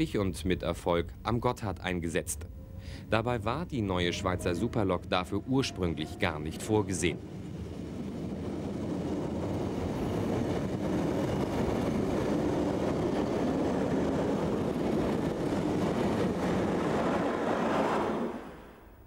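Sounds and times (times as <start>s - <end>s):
train wheels rumbling on rails: 3.2s - 18.7s.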